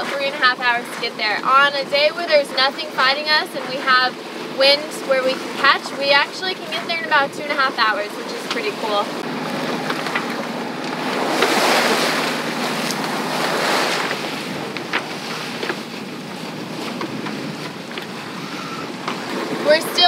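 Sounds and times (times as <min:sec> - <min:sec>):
faint engine hum: 0:00.0 - 0:20.0
waves rushing past boat: 0:00.0 - 0:20.0
wind buffeting microphone: 0:00.0 - 0:20.0.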